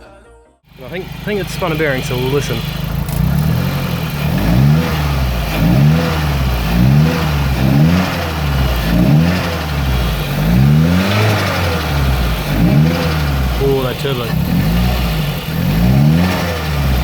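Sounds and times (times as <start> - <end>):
car engine revving in blips: 0.7 - 17.0.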